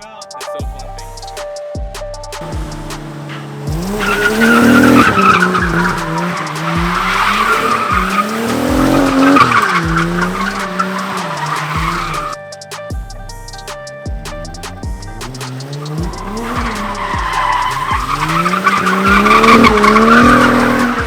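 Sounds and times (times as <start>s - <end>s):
car engine revving: 2.4s - 12.4s, 13.5s - 21.0s
tyres squealing: 2.4s - 12.4s, 13.5s - 21.0s.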